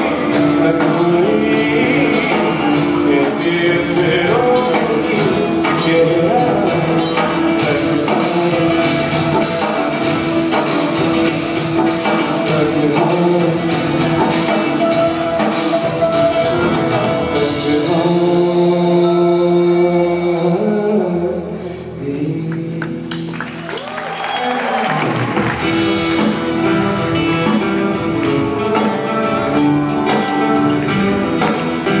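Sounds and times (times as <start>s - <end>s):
guitar: 0.0s - 32.0s
live band with singers: 0.0s - 32.0s.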